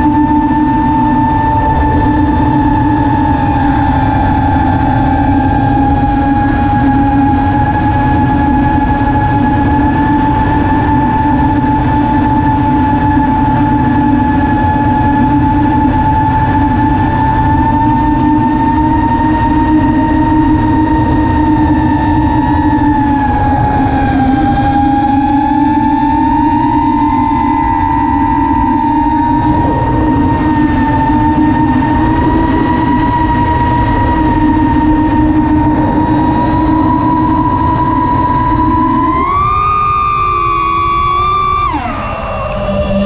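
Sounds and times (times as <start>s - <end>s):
drone motors whining: 0.0s - 43.0s
wind rush on microphone: 0.0s - 43.0s.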